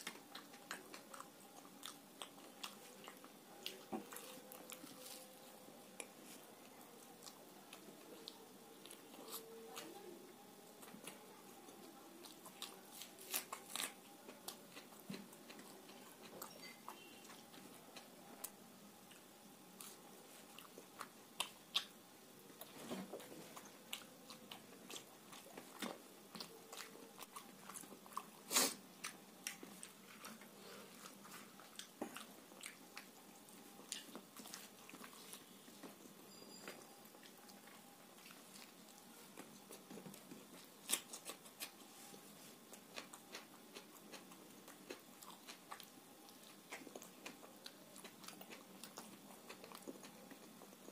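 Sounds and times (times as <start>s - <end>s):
person chewing: 0.0s - 10.1s, 10.8s - 36.0s, 36.7s - 50.9s.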